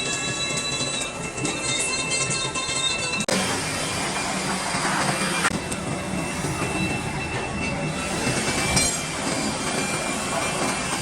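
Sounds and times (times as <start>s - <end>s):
high-pitched squeal: 0.0s - 11.0s.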